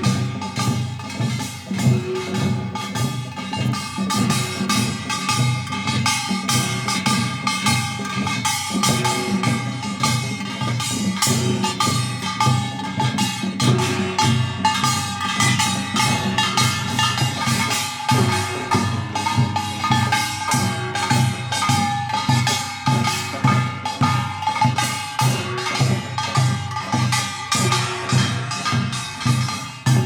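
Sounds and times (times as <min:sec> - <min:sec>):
drums and percussion: 0:00.0 - 0:30.0.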